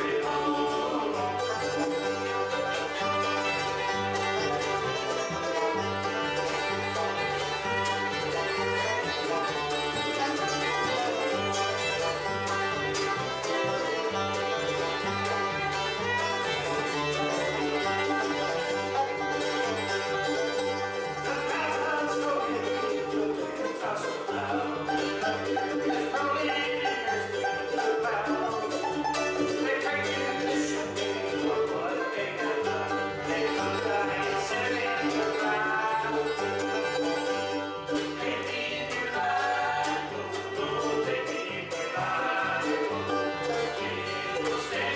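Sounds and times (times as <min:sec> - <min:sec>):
acoustic guitar: 0:00.0 - 0:44.9
banjo: 0:00.0 - 0:44.9
fiddle: 0:00.0 - 0:44.9
mandolin: 0:00.0 - 0:44.9
upright bass alternating notes: 0:00.0 - 0:44.9.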